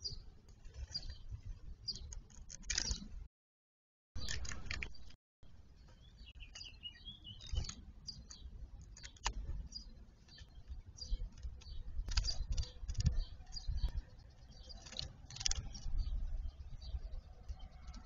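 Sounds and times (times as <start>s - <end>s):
bird chirping: 0.0s - 3.2s, 4.2s - 18.0s.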